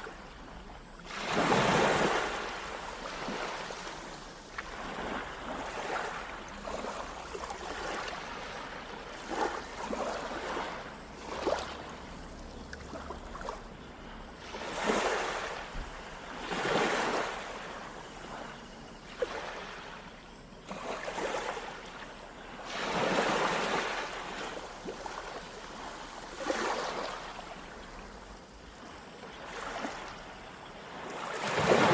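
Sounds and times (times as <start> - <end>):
small waves breaking on beach: 0.0 - 31.9.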